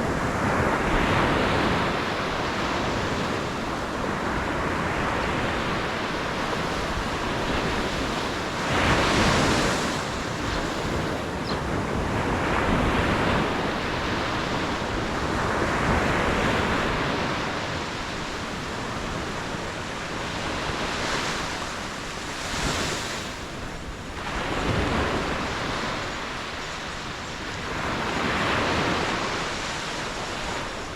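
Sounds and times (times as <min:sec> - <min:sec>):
ocean waves breaking: 0:00.0 - 0:30.9.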